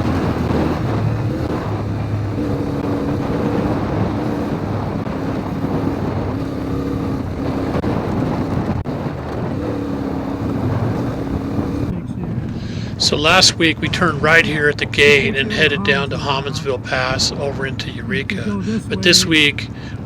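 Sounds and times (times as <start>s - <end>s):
wind noise on microphone: 0.0s - 18.4s
motorcycle engine running hard: 0.0s - 20.0s.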